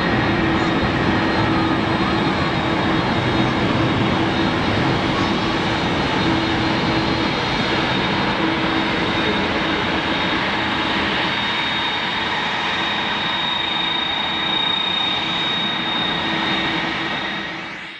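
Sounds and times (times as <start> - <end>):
jet engines rumbling with high whine: 0.0 - 17.9.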